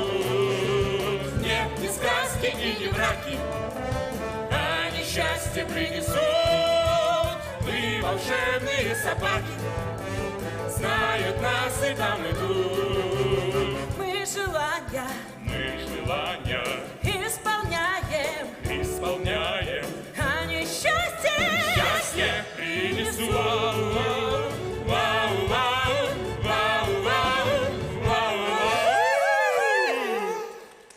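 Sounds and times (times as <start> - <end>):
instrumental accompaniment: 0.0 - 29.0
voices singing with vibrato: 0.0 - 30.9.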